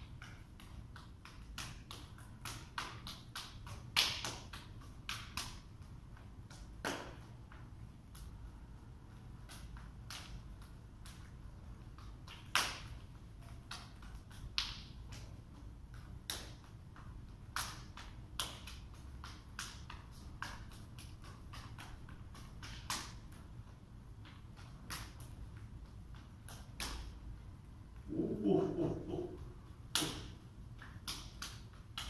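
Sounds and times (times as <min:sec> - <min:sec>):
arms slapping: 0:00.0 - 0:08.4, 0:09.1 - 0:32.0
faint room hum: 0:00.0 - 0:32.0.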